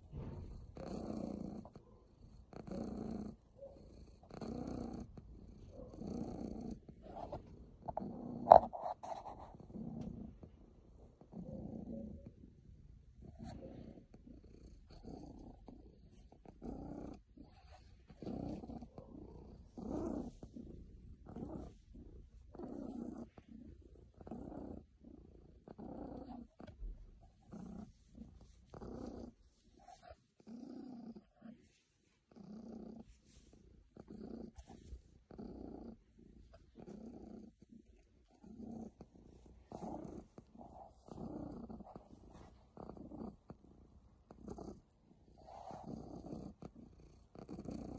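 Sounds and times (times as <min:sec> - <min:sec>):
cat purring: 0:00.0 - 0:47.9.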